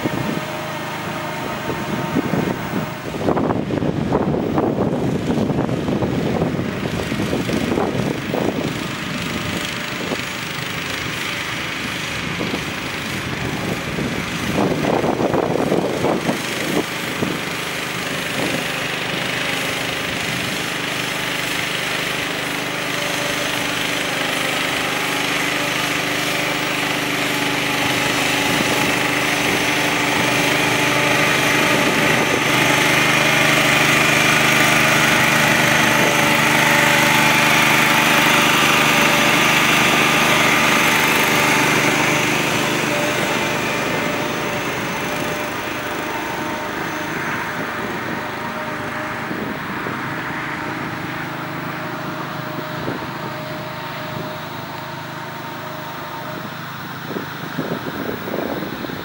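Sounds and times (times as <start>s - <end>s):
irregular rushing noise: 0.0s - 59.0s
small engine running: 0.0s - 59.0s.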